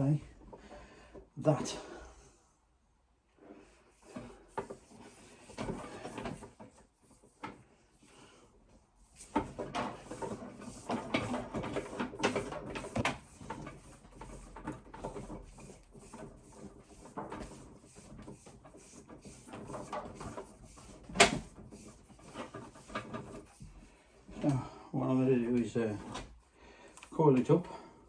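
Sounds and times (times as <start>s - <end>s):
cable rustling and rubbing: 3.4s - 27.9s.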